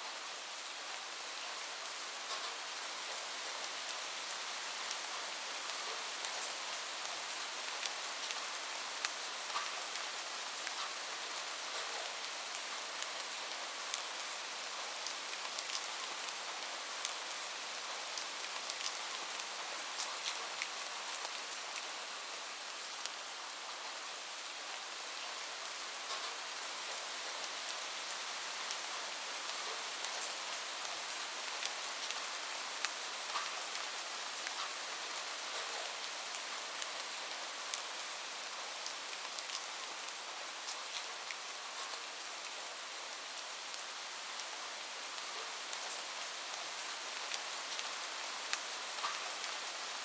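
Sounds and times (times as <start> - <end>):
rain on a roof: 0.0 - 50.0.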